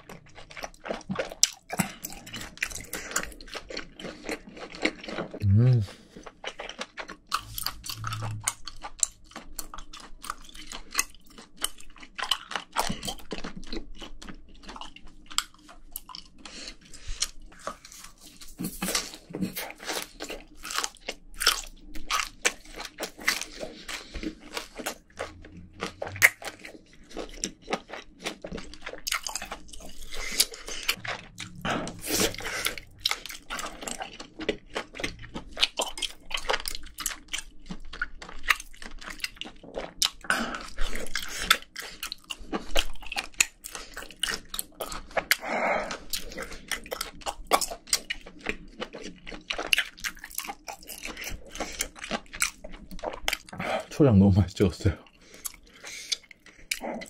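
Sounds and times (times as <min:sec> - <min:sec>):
chewing mouth clicks and smacks: 0:00.0 - 0:05.4, 0:06.0 - 0:53.8, 0:55.0 - 0:57.0.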